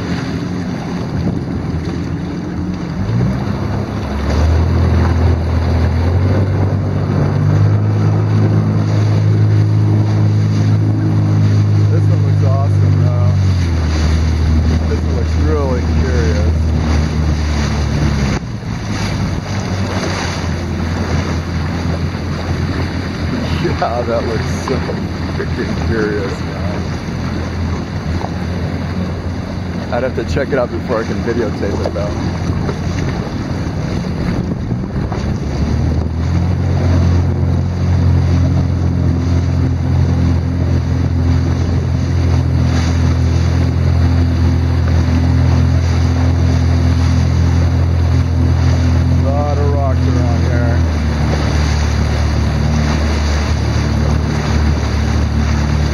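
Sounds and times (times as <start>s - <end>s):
jet ski engine humming: 0.0s - 55.9s
water sloshing against hull: 0.0s - 55.9s
wind buffeting microphone: 0.0s - 55.9s.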